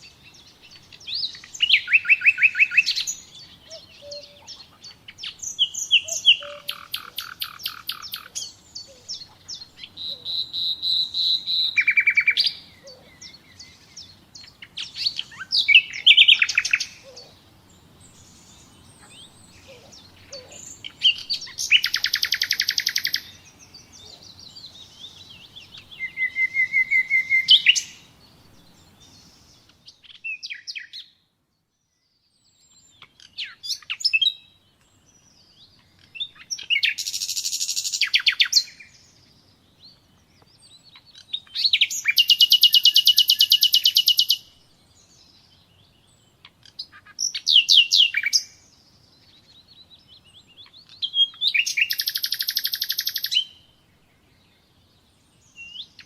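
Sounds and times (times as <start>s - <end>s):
nightingale singing trills: 0.0s - 56.0s.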